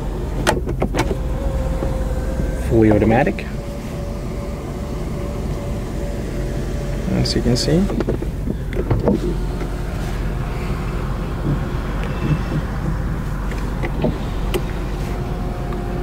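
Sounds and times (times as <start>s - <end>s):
steady low hum: 0.0s - 16.0s
electric sunshade motor running: 1.0s - 16.0s.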